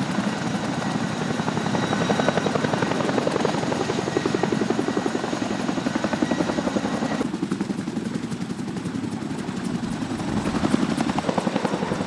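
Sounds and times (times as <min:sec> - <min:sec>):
helicopter rotor beat: 0:00.0 - 0:12.0.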